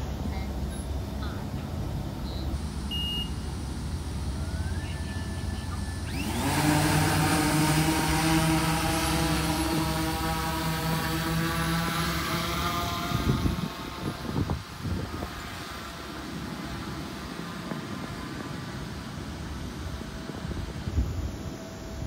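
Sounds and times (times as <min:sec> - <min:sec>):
drone rotors whining: 0:00.0 - 0:22.0.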